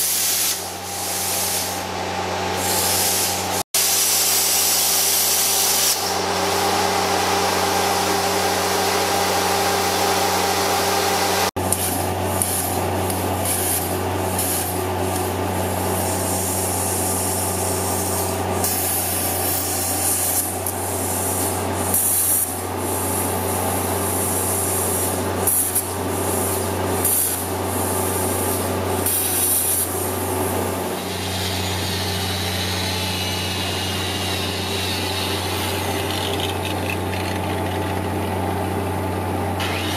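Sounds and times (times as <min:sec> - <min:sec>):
plasma cutter hissing: 0:00.0 - 0:01.9, 0:02.6 - 0:09.7, 0:11.6 - 0:37.4, 0:39.6 - 0:39.9.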